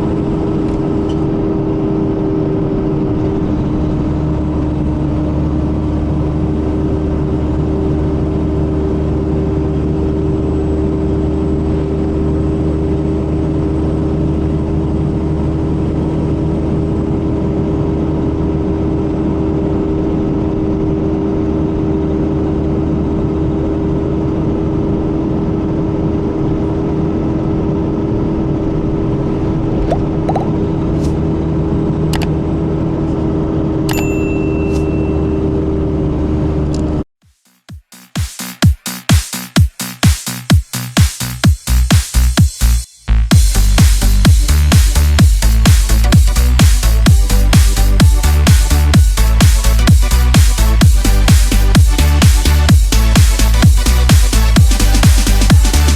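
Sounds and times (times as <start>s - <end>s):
bus diesel engine drone: 0.0s - 37.1s, 39.0s - 55.9s.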